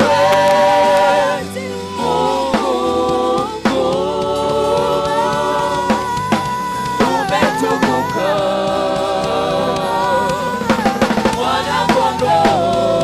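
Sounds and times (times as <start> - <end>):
instrumental backing with drums: 0.0 - 13.0
voices singing together: 0.0 - 13.0.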